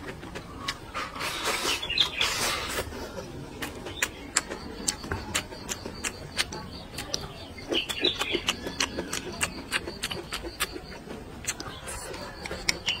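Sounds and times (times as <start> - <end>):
person chewing food: 2.3 - 13.0.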